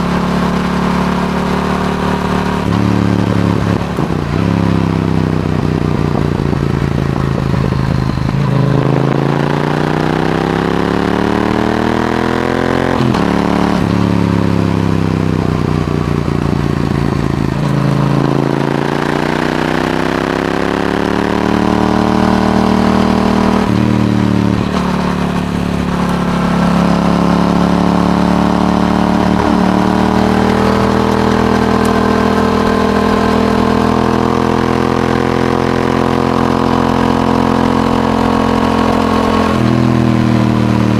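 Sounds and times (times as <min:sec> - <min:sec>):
motorcycle engine upshifting: 0:00.0 - 0:40.9.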